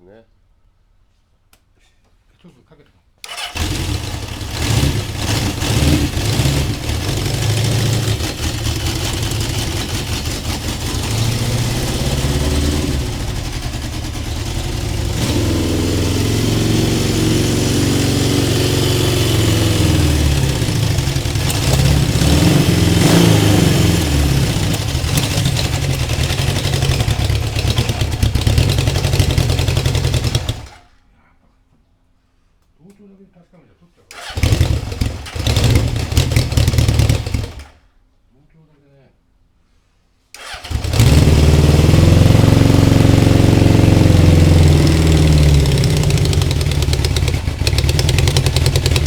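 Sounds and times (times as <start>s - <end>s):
motorcycle engine revving: 3.2s - 30.8s, 34.1s - 37.8s, 40.4s - 49.0s.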